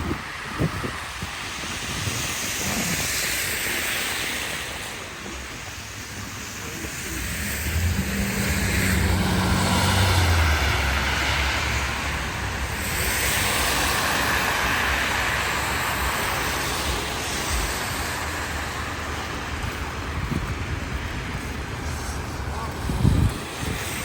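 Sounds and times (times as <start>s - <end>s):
hiss of tyres on wet road: 0.0s - 24.0s.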